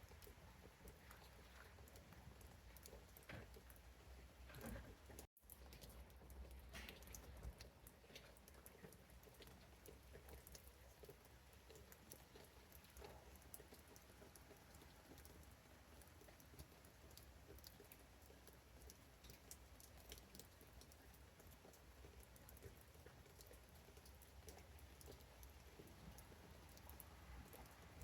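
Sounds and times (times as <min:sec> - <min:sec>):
raindrops on leaves: 0:00.0 - 0:28.0.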